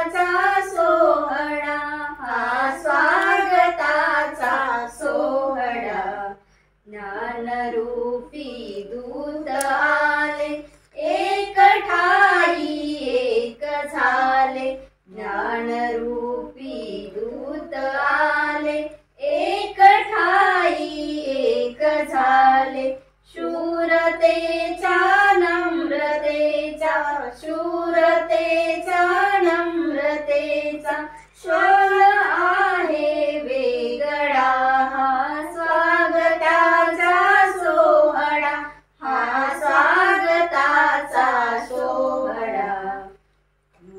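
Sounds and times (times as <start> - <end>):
women and girl singing: 0.0 - 43.2.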